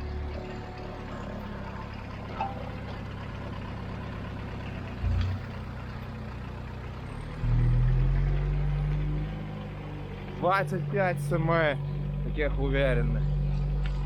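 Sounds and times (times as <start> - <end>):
diesel tractor engine running: 0.0 - 14.0.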